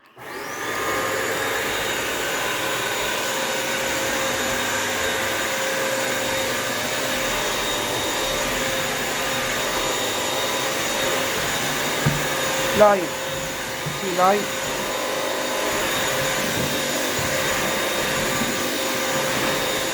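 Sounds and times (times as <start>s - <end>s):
vacuum mop motor whining: 0.0s - 19.9s.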